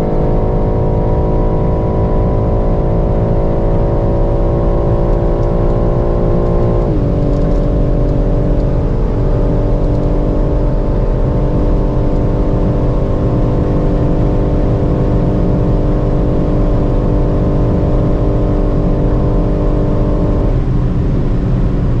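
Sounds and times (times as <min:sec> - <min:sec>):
car engine pulling hard: 0:00.0 - 0:22.0
wind and road noise: 0:00.0 - 0:22.0.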